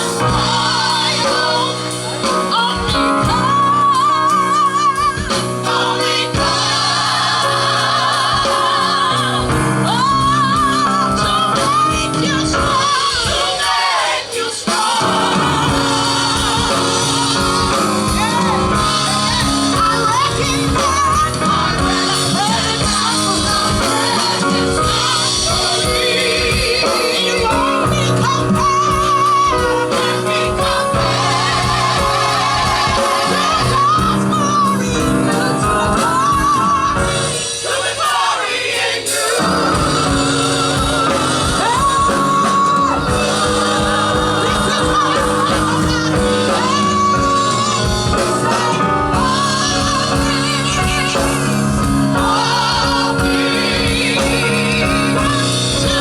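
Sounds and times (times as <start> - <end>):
gospel group singing: 0.0 - 56.0
instrumental backing: 0.0 - 56.0
lead singer with wide vibrato: 0.0 - 56.0.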